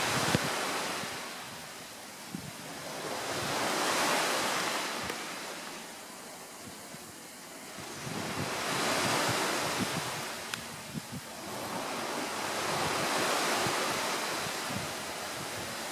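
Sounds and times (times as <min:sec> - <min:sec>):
low buffeting on microphone: 0:00.0 - 0:15.9
rushing wind: 0:00.0 - 0:15.9.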